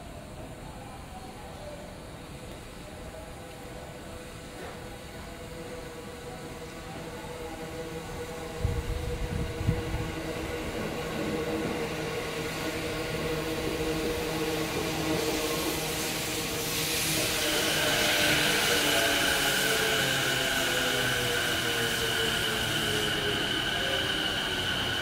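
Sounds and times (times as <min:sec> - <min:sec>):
train motor hum and wheel noise: 0:00.1 - 0:25.0.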